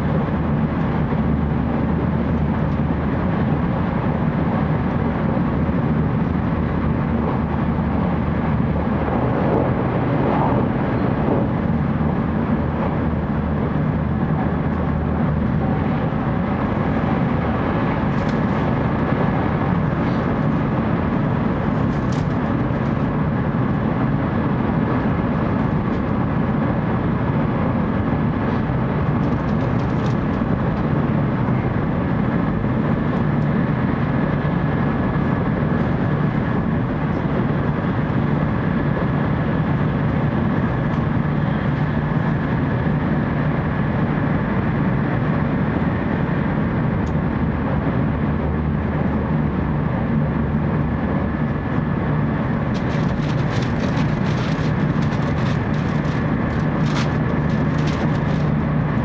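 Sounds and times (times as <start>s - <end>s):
train cabin rumble and rush: 0.0s - 59.0s.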